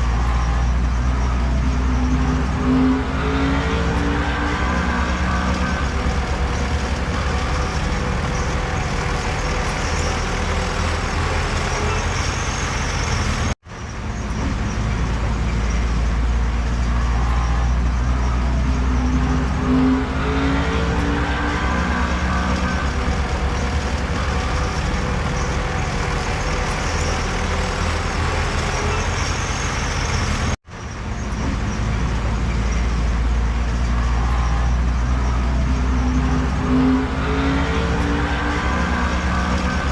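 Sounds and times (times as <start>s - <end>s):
heavy diesel machinery rumbling: 0.0s - 39.9s.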